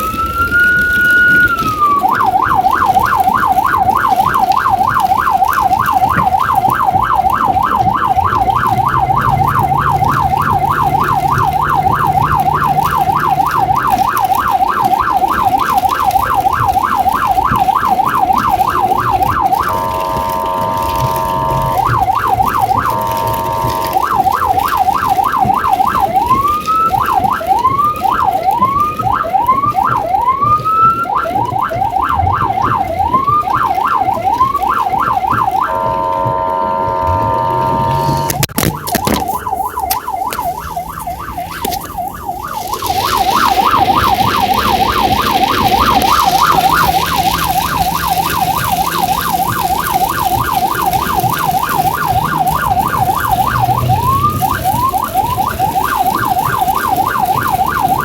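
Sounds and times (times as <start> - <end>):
blaring horn tone: 0.0 - 26.6, 31.8 - 58.0
siren yelping: 0.0 - 58.0.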